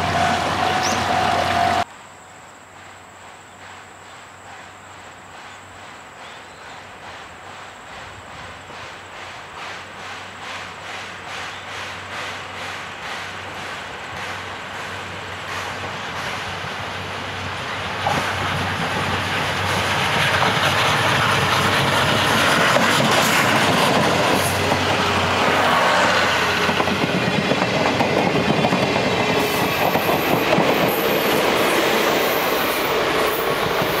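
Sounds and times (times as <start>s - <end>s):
steam train passing: 0.0s - 34.0s.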